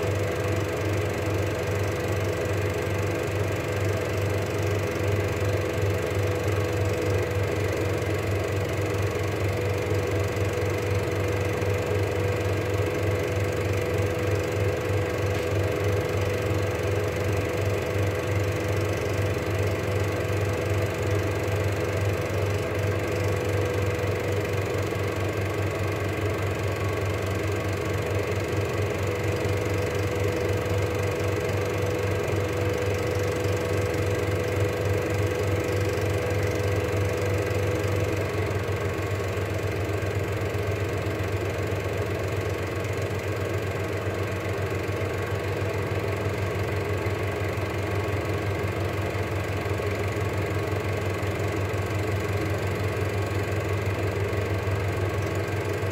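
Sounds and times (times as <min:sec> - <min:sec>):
projector motor hum: 0:00.0 - 0:55.9.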